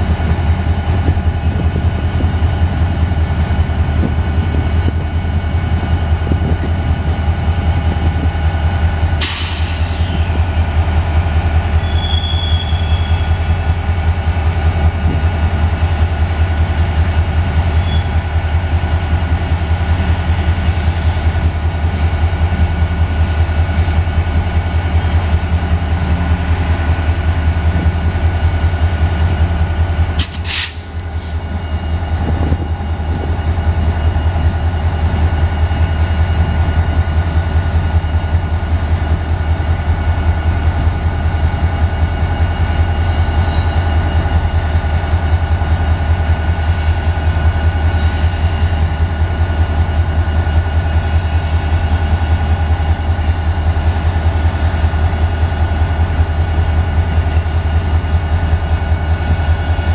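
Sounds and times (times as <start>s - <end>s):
diesel locomotive idling: 0.0s - 59.9s.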